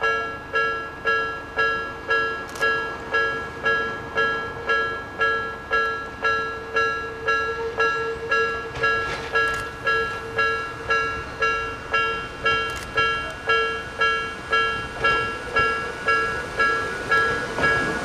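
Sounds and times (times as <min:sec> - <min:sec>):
level-crossing alarm dinging: 0:00.0 - 0:18.0.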